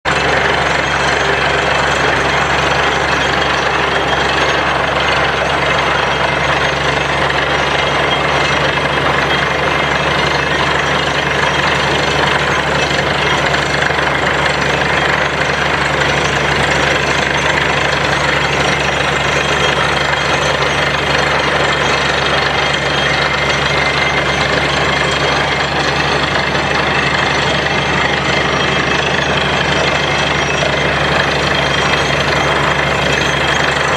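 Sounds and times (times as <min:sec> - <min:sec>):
drilling machine engine clattering: 0:00.1 - 0:33.9.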